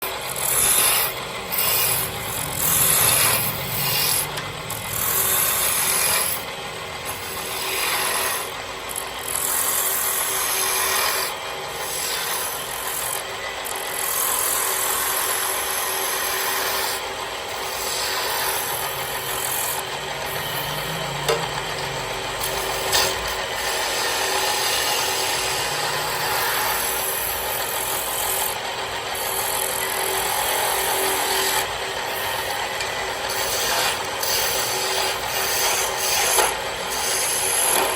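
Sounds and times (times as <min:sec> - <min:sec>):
lathe motor hum: 0:00.0 - 0:37.9
tool scraping spinning wood: 0:00.0 - 0:37.9.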